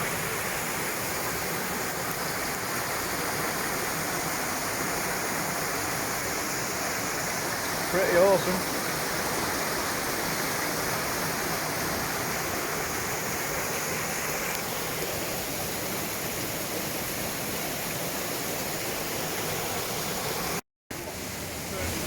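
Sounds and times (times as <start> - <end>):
river water tumbling over boulders: 0.0 - 22.0.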